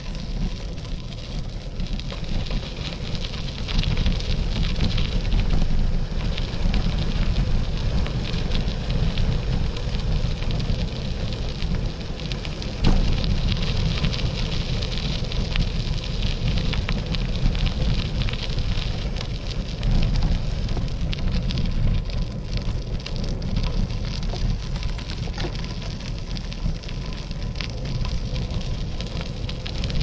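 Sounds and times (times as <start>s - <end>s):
dense crackle of clicks: 0.0s - 30.0s
wind rumbling over microphone: 0.0s - 30.0s.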